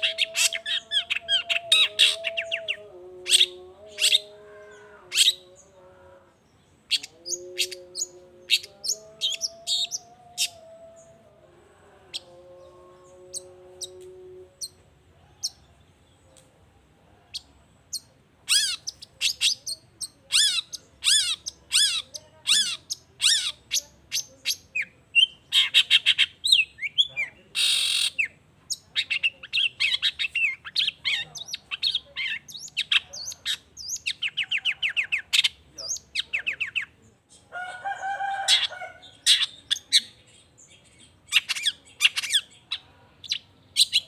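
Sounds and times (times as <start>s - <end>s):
shrike singing: 0.0s - 16.1s, 17.3s - 44.0s.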